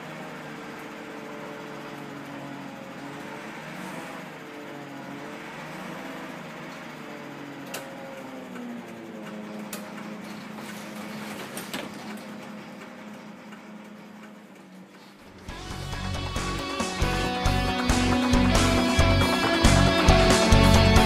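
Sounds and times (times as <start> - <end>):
bus diesel engine: 0.0 - 21.0.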